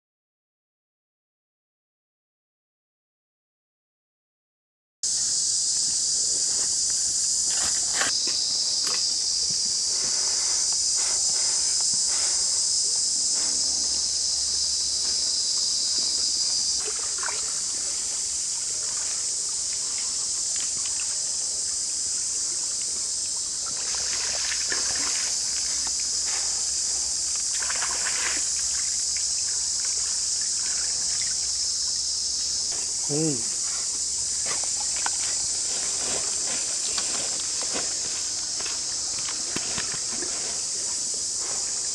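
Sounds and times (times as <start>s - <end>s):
high-pitched insect chorus: 5.0s - 41.9s.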